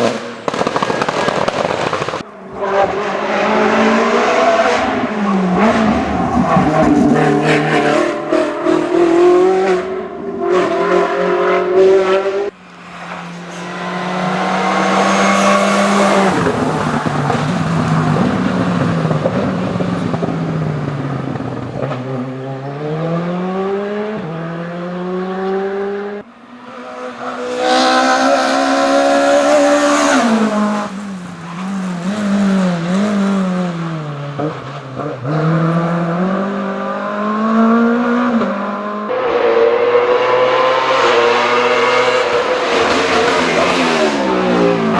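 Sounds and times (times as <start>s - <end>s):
race car engines at full throttle: 0.0s - 44.9s.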